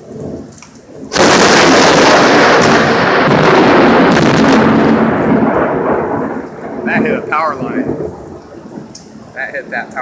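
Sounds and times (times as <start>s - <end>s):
loud thunder rumbling: 0.0s - 10.0s
sharp crackles of thunder: 0.0s - 10.0s.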